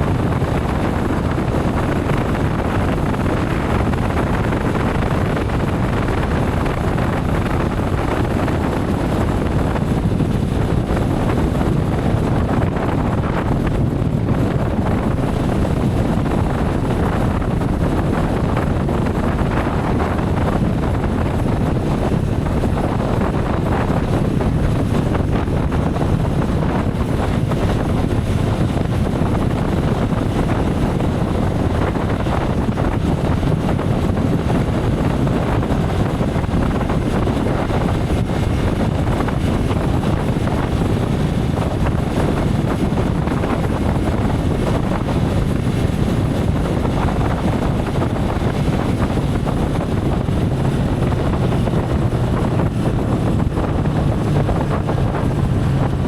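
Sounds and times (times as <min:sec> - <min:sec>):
motorcycle road noise: 0:00.0 - 0:56.0
wind rush over microphone: 0:00.0 - 0:56.0.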